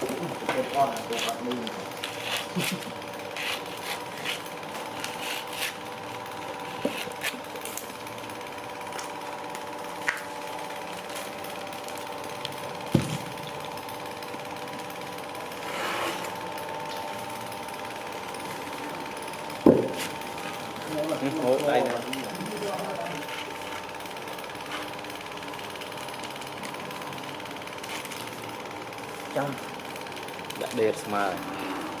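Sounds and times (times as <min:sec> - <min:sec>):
machine motor running: 0:00.0 - 0:32.0.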